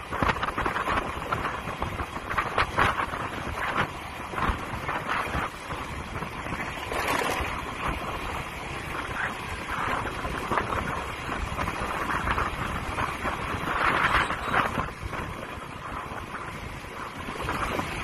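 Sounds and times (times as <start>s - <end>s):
city traffic: 0.0s - 18.0s
scooter ride noise: 0.0s - 18.0s
wind on microphone: 0.0s - 18.0s.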